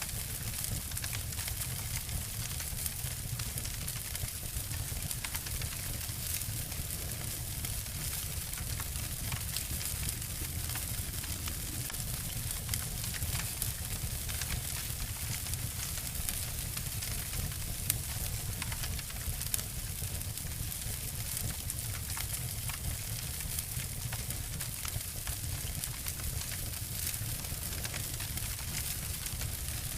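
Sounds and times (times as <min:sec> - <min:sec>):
low rumble of burning: 0:00.0 - 0:29.9
wood fire crackling and snapping: 0:00.0 - 0:29.9.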